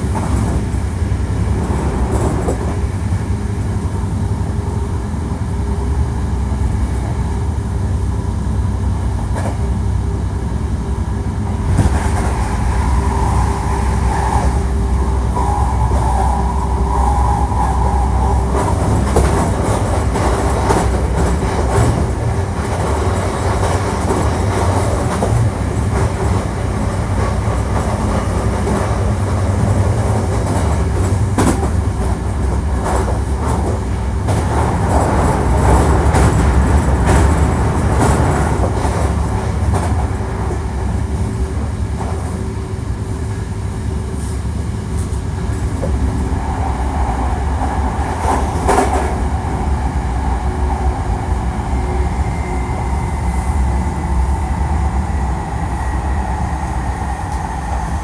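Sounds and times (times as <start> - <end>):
rail joint clicks: 0.0 - 4.5, 8.7 - 58.0
train wheels rumbling on rails: 0.0 - 58.0.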